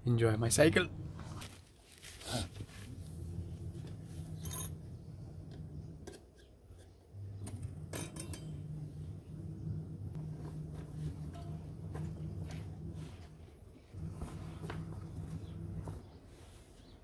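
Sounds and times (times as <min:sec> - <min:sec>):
low steady hum: 0:00.0 - 0:16.5.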